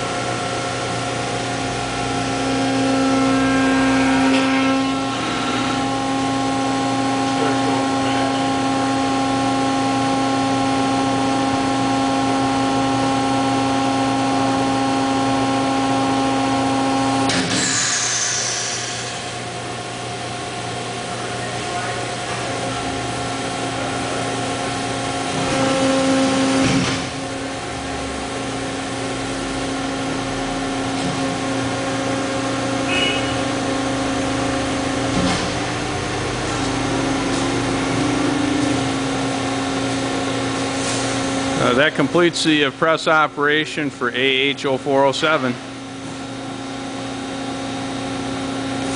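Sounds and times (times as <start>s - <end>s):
hydraulic power unit whine: 0.0s - 48.9s.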